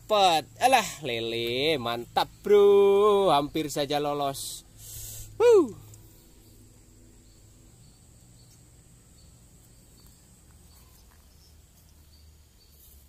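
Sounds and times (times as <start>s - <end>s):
insects droning: 0.0s - 13.0s
faint chirps: 0.2s - 13.0s.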